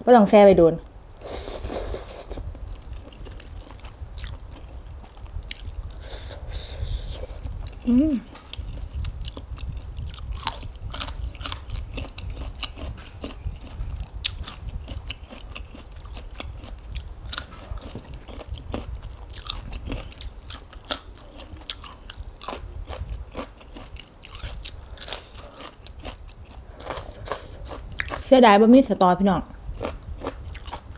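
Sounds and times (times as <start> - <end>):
raw vegetables crunching when chewed: 1.4 - 28.3, 29.5 - 30.9.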